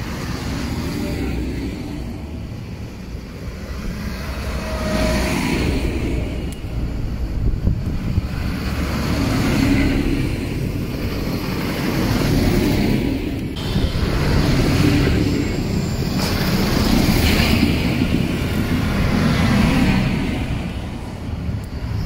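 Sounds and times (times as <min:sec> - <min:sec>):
tractor engines passing: 0:00.0 - 0:22.0.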